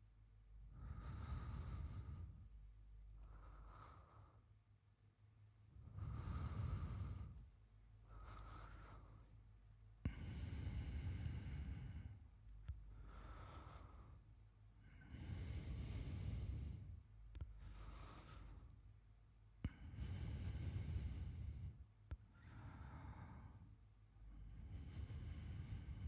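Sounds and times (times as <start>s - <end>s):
man's deep sleeping breaths: 0.0s - 26.0s.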